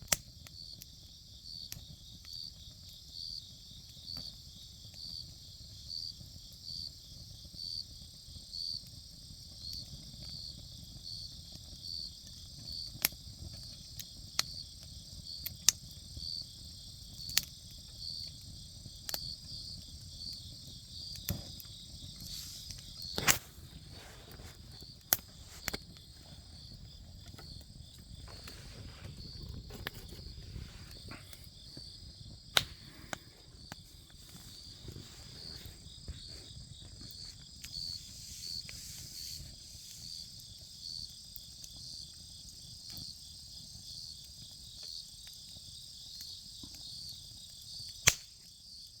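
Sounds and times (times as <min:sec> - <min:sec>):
campfire wood crackling: 0:00.0 - 0:49.0
insects chirping: 0:00.4 - 0:49.0.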